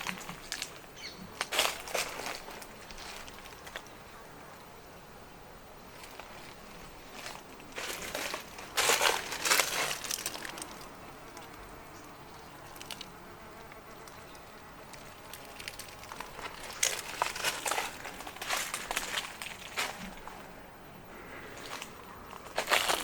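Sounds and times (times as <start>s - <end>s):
footsteps crunching on dry trail: 0.0s - 4.0s, 5.8s - 12.6s, 15.0s - 23.0s.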